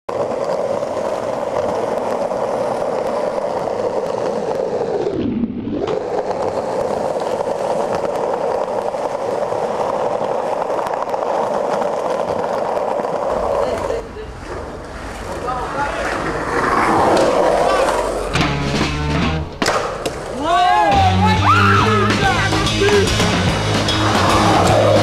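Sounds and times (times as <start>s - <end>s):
skateboard wheels rolling on asphalt: 0.1s - 25.0s.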